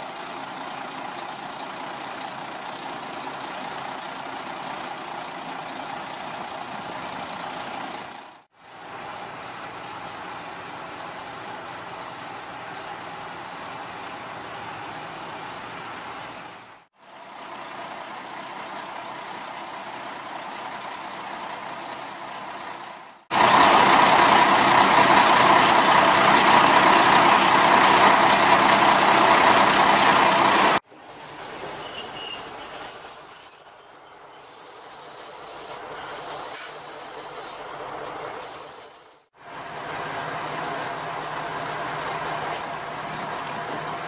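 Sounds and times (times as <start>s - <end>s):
diesel railcar engine running: 0.0s - 44.0s.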